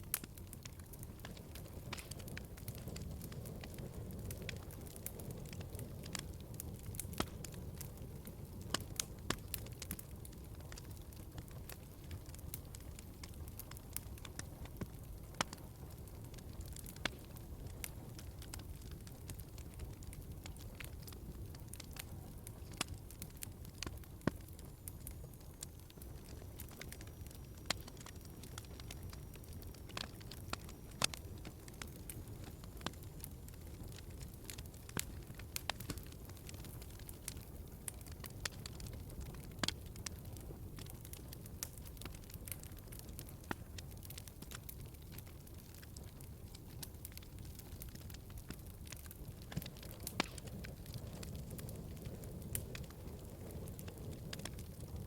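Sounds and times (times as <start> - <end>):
fire popping and snapping: 0.0 - 55.0
low rumble of burning logs: 0.0 - 55.0.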